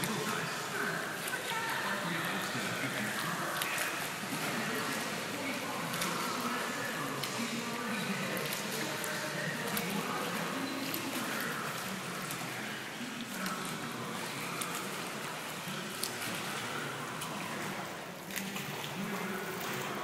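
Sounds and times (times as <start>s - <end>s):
indoor pool hiss: 0.0s - 20.0s
swimmer splashing: 0.0s - 20.0s.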